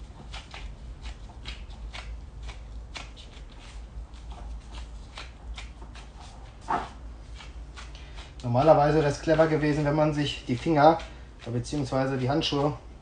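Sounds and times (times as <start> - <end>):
low steady hum: 0.0 - 13.0
plastic gloves squishing mince: 0.0 - 13.0.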